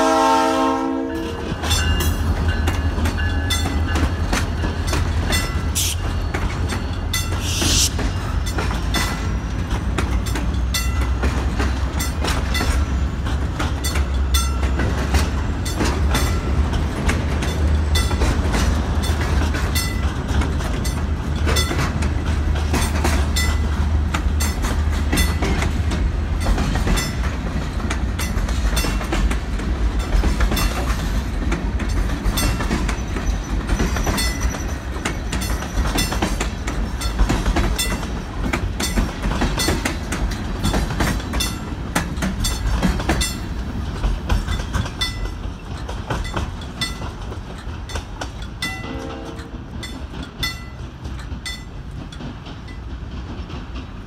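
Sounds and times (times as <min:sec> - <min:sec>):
low train rumble: 0:00.0 - 0:54.0
train wheels clacking over rails: 0:00.0 - 0:54.0.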